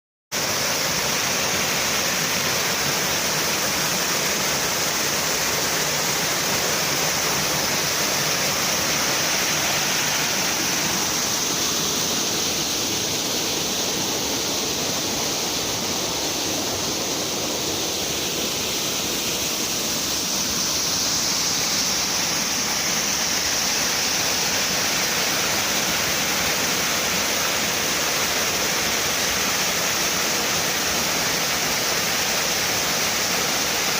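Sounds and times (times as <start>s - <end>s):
small waterfall splashing: 0.3s - 33.9s.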